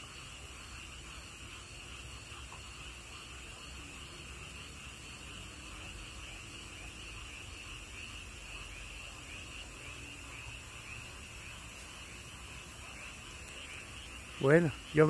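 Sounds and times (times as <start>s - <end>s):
frogs and toads calling: 0.0s - 15.0s.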